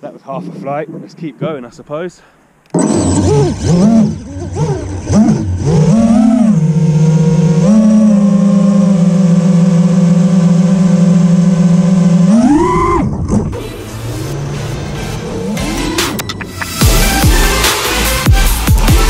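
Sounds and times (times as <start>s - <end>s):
drone motors and propellers whining: 2.6s - 19.0s.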